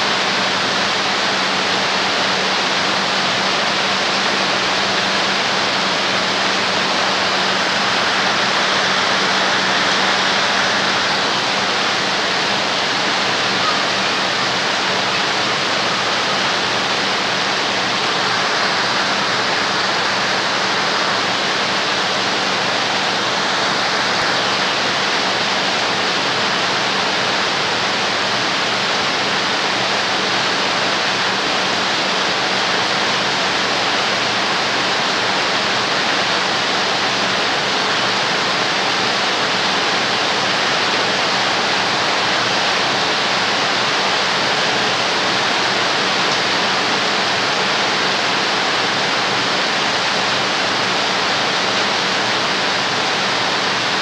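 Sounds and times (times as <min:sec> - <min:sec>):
heavy rain on a metal roof: 0:00.0 - 0:54.0
water streaming off roof: 0:00.0 - 0:54.0.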